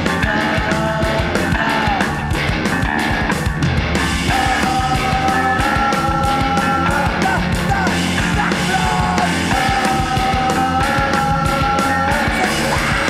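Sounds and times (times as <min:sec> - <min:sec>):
noise-pop rock music: 0:00.0 - 0:13.0.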